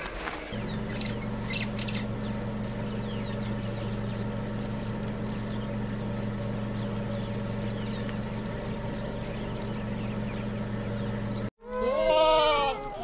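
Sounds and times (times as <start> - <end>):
small birds chirping: 0.0 - 11.5
steady low hum: 0.0 - 11.8.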